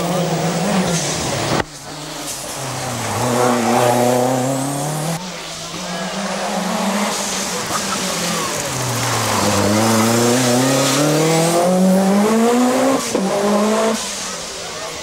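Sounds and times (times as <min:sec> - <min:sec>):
car engine accelerating: 0:00.0 - 0:14.5.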